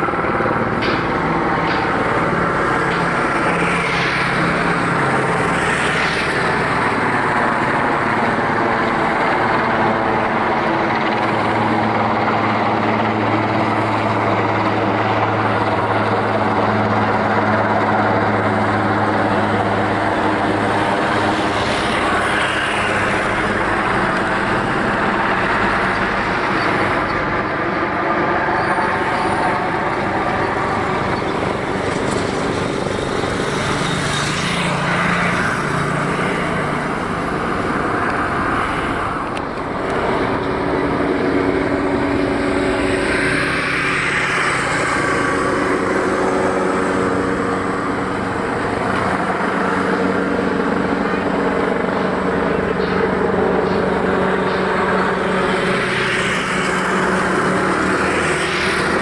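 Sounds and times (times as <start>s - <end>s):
helicopter flying overhead: 0.0s - 59.0s.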